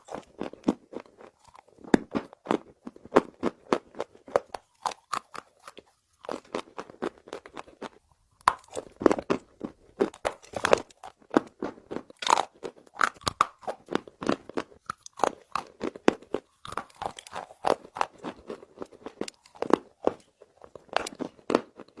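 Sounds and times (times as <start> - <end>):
person chewing crunchy clay: 0.0 - 22.0.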